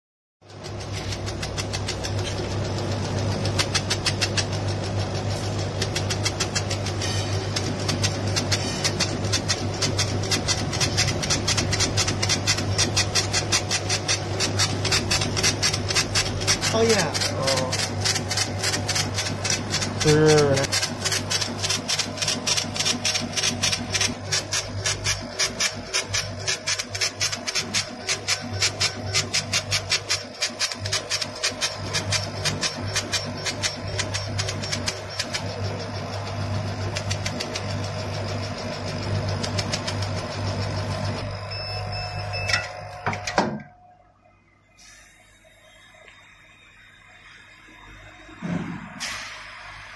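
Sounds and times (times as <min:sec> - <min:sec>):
low machine hum: 0:00.5 - 0:30.0, 0:31.5 - 0:46.4
laser engraver ticking: 0:00.5 - 0:43.4.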